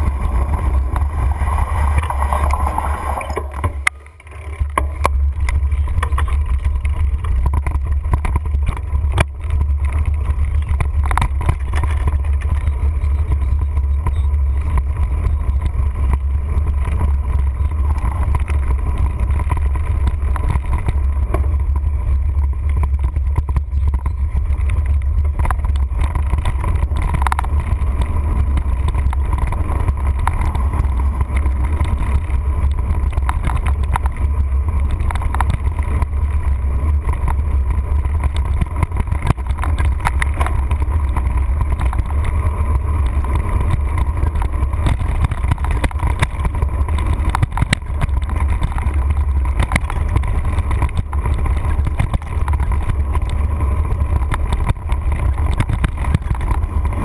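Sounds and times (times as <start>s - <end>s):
bike knocking and rattling: 0.0s - 57.0s
low rumble of wind and vibration: 0.0s - 57.0s.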